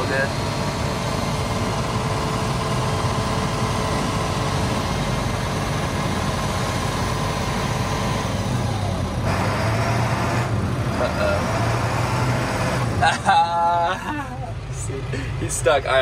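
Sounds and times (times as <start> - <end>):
heavy machinery engines running: 0.0 - 16.0.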